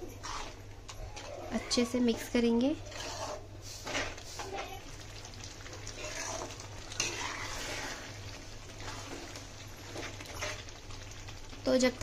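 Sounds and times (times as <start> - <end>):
spoon stirring thick sauce: 0.0 - 11.6
oil sizzling: 0.0 - 12.0.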